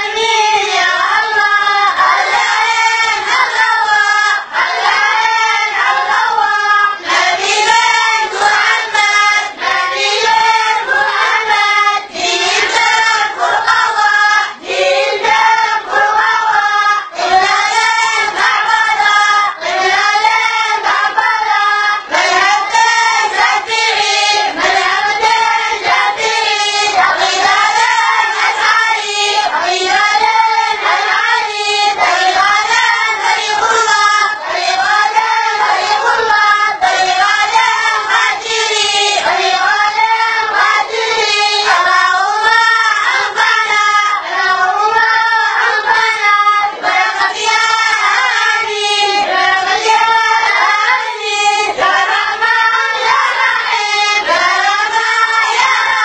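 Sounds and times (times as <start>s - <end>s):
boys singing in unison: 0.0s - 56.0s.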